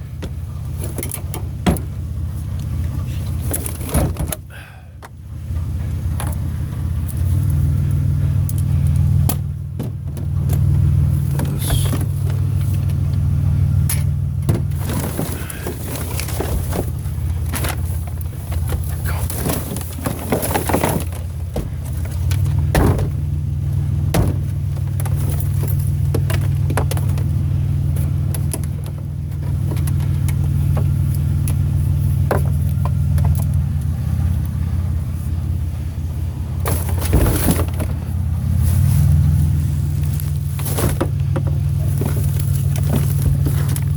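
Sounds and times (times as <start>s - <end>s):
knocks and rattles: 0.0s - 5.2s, 8.4s - 35.0s, 36.2s - 43.9s
vehicle engine rumbling: 0.0s - 43.9s.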